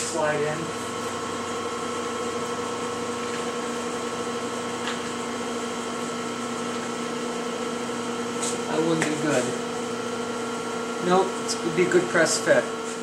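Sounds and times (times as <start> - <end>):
shop machinery humming: 0.0 - 13.0.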